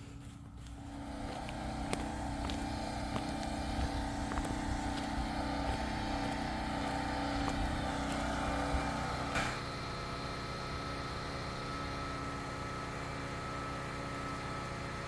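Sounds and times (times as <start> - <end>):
generator engine humming: 0.0 - 15.0.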